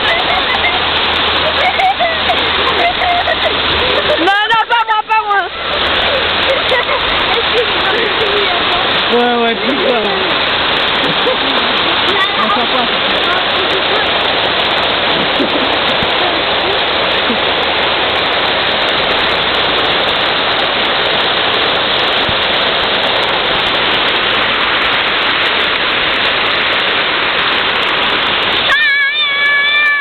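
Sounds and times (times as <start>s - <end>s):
loud steady rushing noise: 0.0s - 30.0s.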